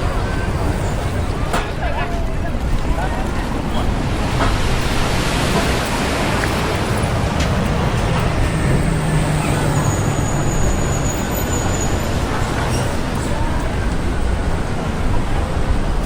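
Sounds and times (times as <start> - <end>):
passing motor vehicles: 0.0 - 16.0.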